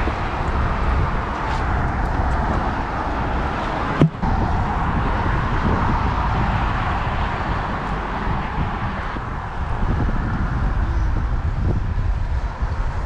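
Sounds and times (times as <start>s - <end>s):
highway traffic rushing: 0.0s - 13.0s
wind noise on microphone: 0.0s - 13.0s.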